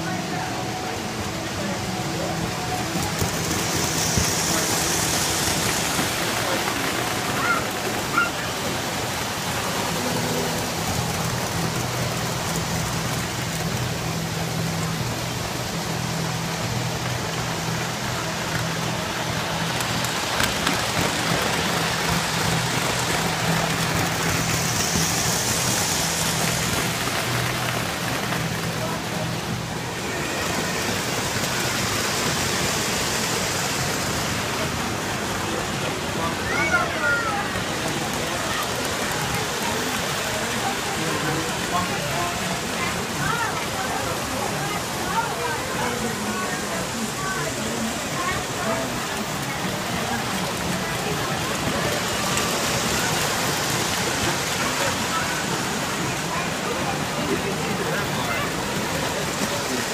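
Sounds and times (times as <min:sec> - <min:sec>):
model trains rumbling on track: 0:00.0 - 0:59.9.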